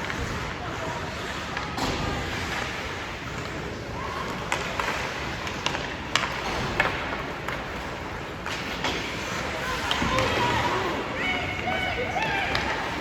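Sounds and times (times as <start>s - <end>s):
din of players and spectators: 0.0s - 13.0s.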